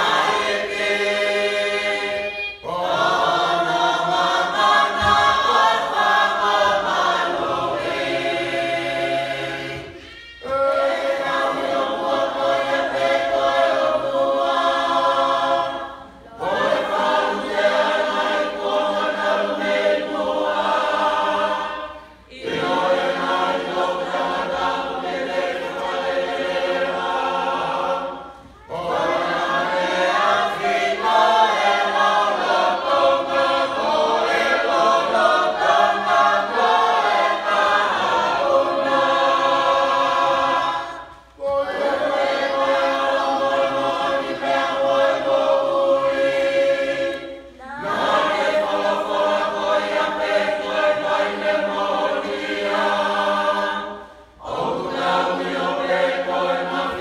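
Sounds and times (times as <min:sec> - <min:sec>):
congregation singing a chanted hymn: 0:00.0 - 0:57.0.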